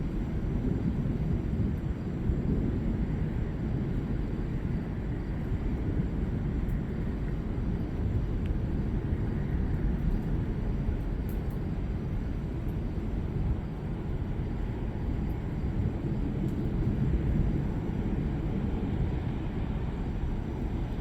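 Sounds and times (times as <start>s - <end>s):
low thunder rumble: 0.0s - 21.0s.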